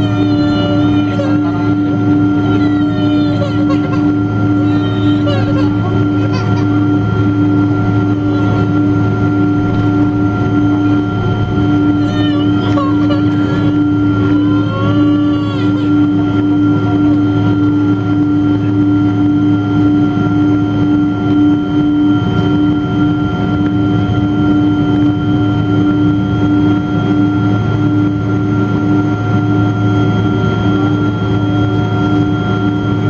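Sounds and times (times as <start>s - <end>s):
jet engine drone in cabin: 0.0s - 33.0s.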